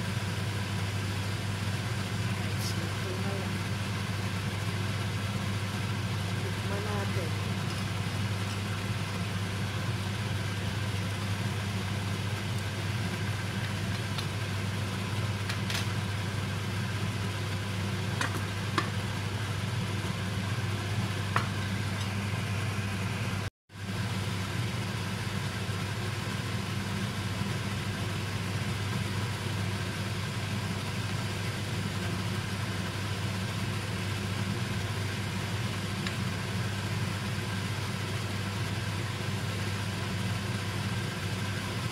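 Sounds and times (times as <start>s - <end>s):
steady low hum: 0.0s - 41.9s
soup simmering: 3.6s - 6.4s, 7.4s - 41.8s.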